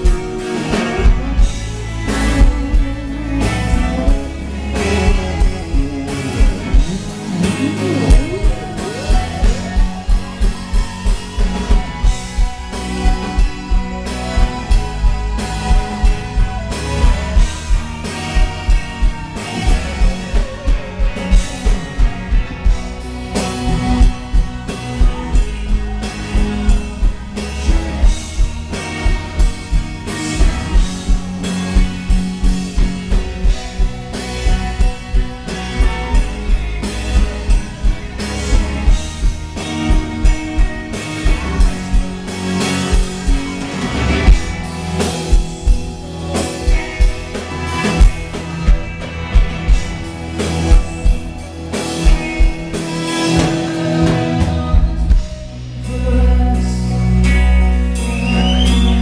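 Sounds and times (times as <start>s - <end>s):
drum kit beat: 0.0s - 56.0s
electric guitars: 0.0s - 59.0s.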